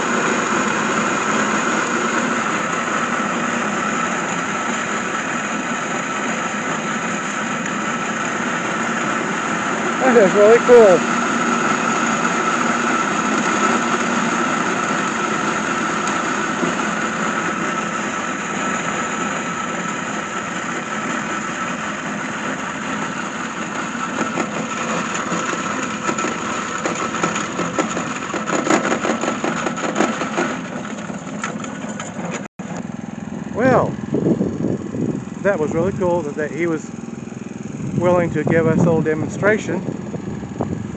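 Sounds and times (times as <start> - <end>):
feed grinder grinding corn: 0.0 - 40.9
steady machine whine: 0.0 - 40.9
tractor engine running: 0.0 - 40.9.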